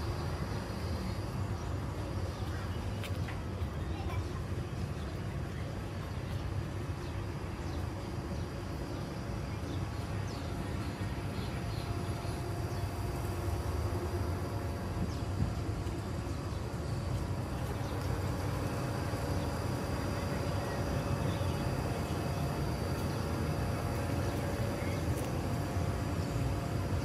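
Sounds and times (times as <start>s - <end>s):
distant city traffic rumble: 0.0s - 27.0s.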